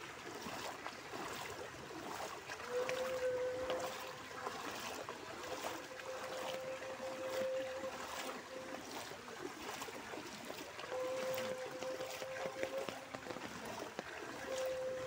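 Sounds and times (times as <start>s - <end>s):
floodwater running: 0.0s - 15.0s
rain pattering: 0.0s - 15.0s.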